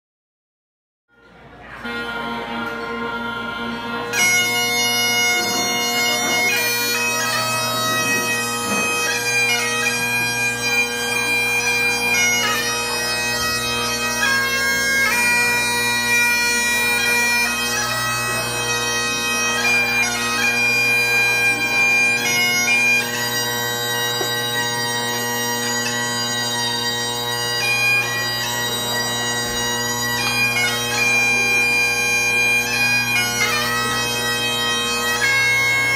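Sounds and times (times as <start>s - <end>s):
bagpipe chanters playing tune: 1.1s - 35.9s
bagpipe drones: 1.1s - 35.9s.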